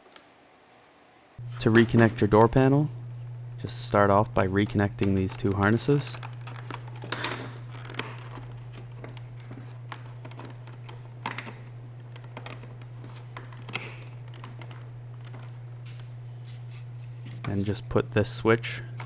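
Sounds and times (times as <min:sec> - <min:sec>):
steady low hum: 0:01.4 - 0:19.0.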